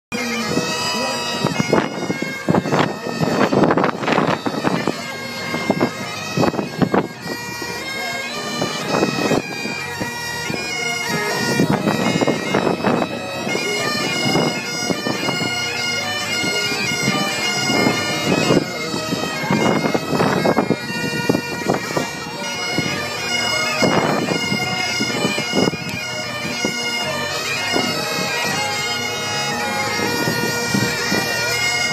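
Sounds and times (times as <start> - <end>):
bagpipes playing a tune: 0.1 - 31.9.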